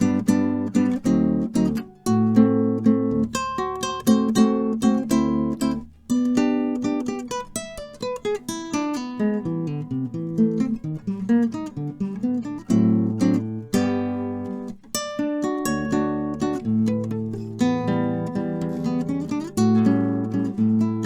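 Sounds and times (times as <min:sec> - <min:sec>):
classical guitar fingerstyle: 0:00.0 - 0:21.0.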